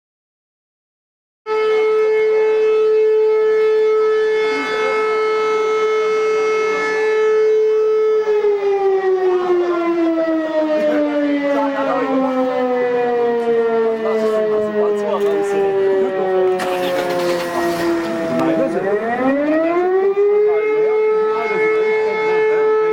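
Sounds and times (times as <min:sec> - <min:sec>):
siren wailing: 0:01.5 - 0:22.9.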